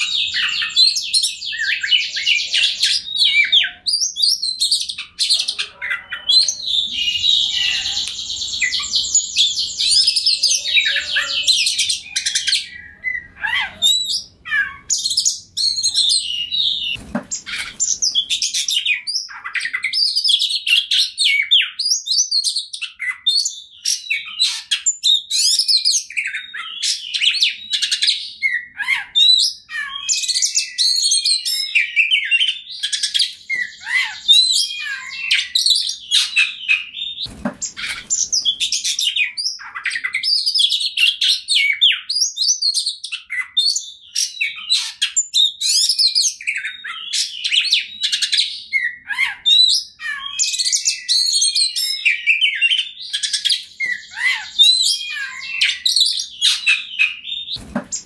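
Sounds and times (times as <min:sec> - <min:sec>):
bird singing trills and whistles: 0:00.0 - 0:58.0.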